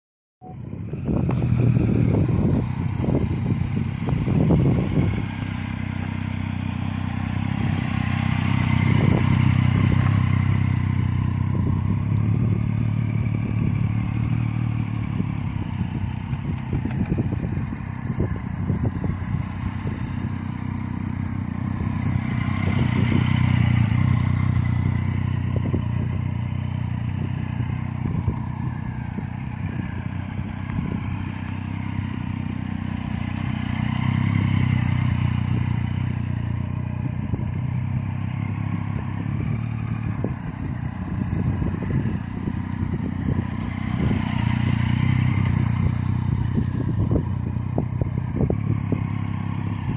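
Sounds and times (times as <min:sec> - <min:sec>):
engine crackles: 0:00.9 - 0:49.9
motorcycle engine low revs: 0:00.9 - 0:49.9.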